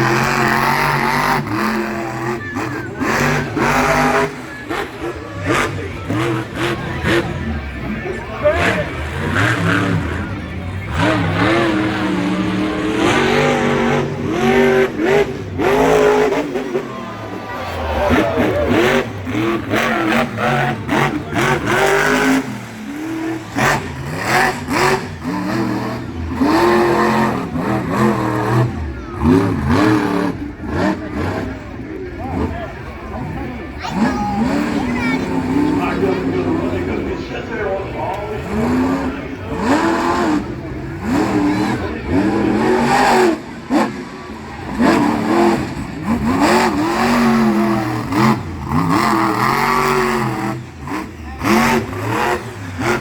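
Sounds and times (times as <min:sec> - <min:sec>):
monster truck engine revving: 0:00.0 - 0:53.0.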